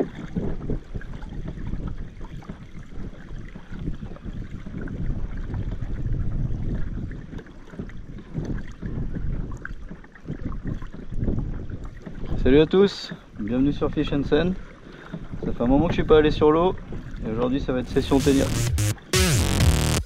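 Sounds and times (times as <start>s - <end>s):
wind rumble on microphone: 0.0s - 14.6s, 15.2s - 17.8s.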